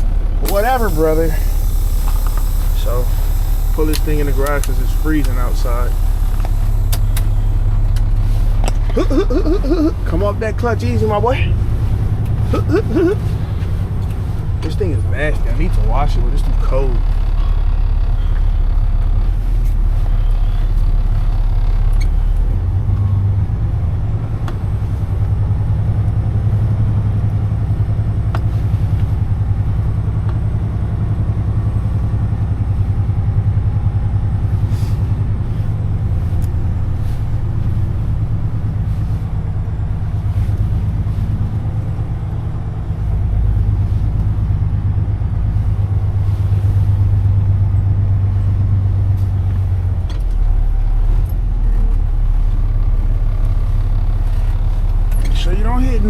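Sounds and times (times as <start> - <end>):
truck diesel engine rumbling: 0.0 - 56.0.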